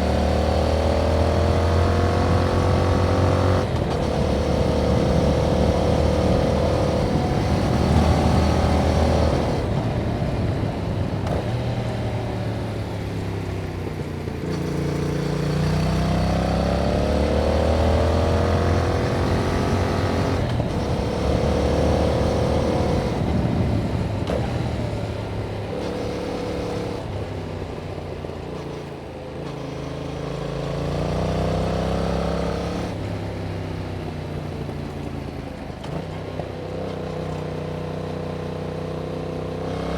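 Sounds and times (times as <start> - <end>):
motorcycle engine revving: 0.0 - 33.8, 35.8 - 39.9.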